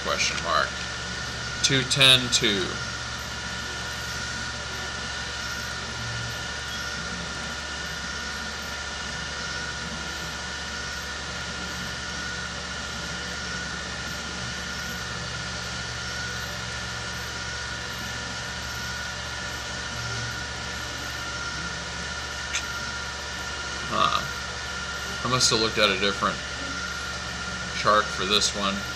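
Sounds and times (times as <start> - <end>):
background hum and hiss: 0.0 - 28.9
thin whining tones: 0.0 - 28.9.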